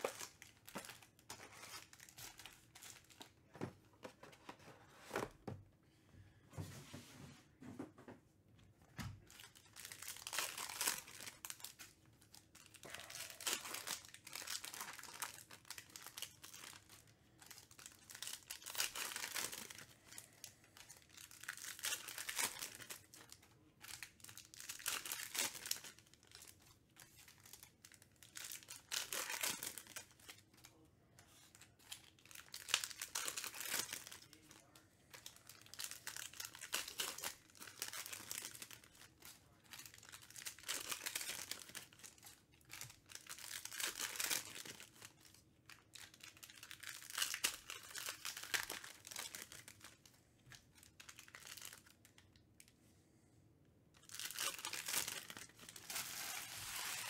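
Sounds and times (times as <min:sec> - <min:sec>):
plastic wrapping tearing and crumpling: 0:00.0 - 0:03.5, 0:09.2 - 0:52.3, 0:54.0 - 0:57.0.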